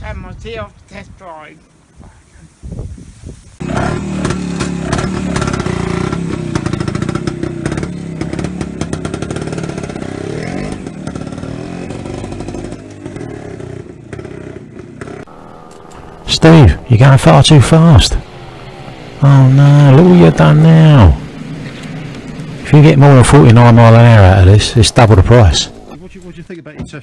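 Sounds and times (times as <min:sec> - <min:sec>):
motorcycle engine revving: 0:03.6 - 0:26.5.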